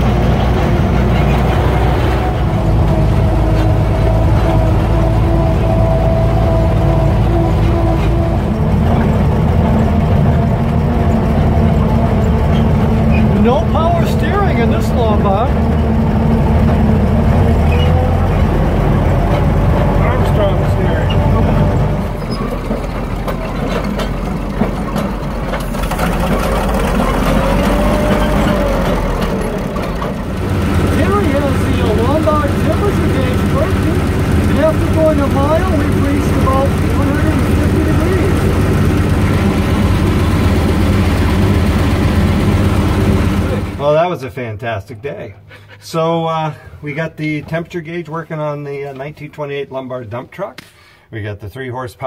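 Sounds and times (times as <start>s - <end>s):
truck engine low rumble: 0.0s - 44.1s.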